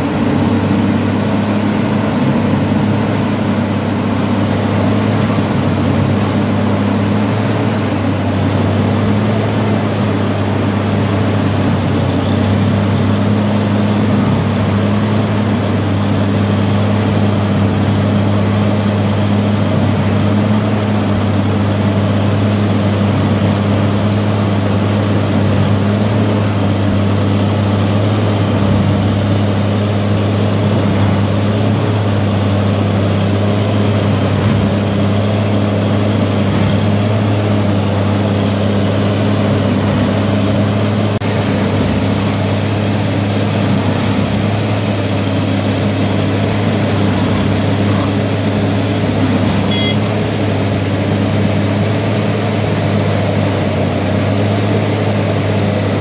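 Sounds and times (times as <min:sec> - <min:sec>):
machine engine humming: 0:00.0 - 0:56.0.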